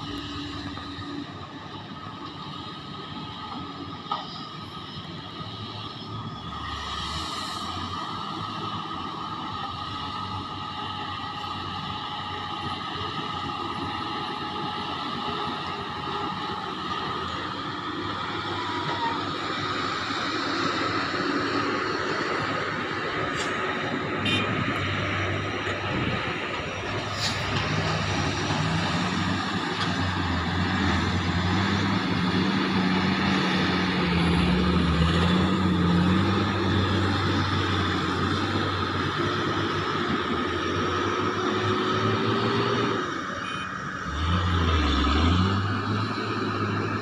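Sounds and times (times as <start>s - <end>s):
heavy diesel machinery engines: 0.0s - 47.0s.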